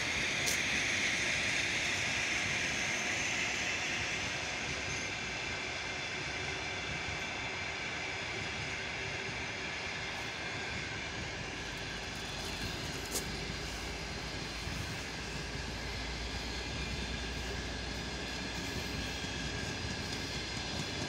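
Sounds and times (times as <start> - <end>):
train coaches rolling on rails: 0.0 - 21.0.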